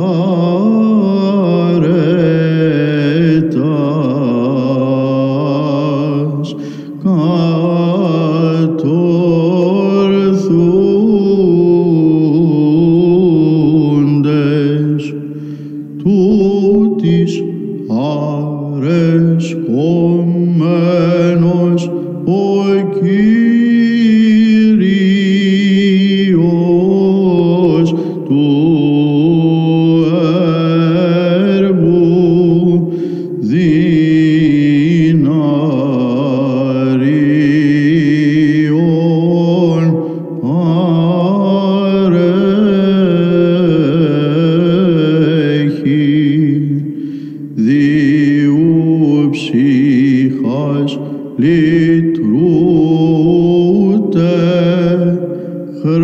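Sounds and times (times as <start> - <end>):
chant melody sung: 0.0 - 56.0
held vocal drone: 0.0 - 56.0.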